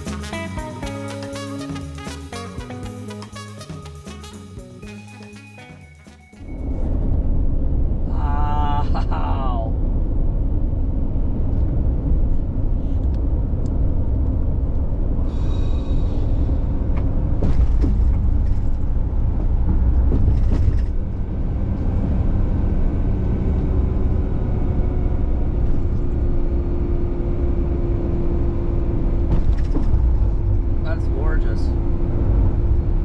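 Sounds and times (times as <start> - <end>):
engine and road rumble: 6.2 - 33.0.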